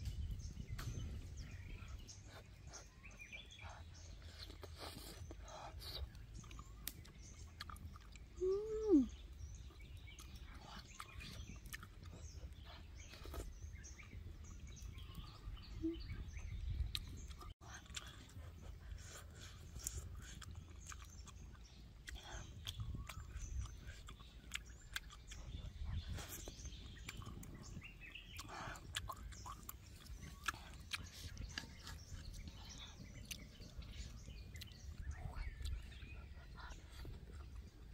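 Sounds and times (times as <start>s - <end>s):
person chewing: 3.8s - 37.9s.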